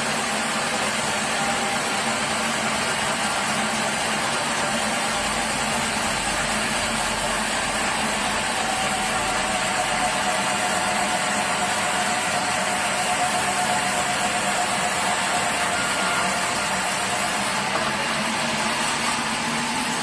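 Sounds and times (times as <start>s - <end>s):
sawmill machinery droning: 0.0s - 20.0s.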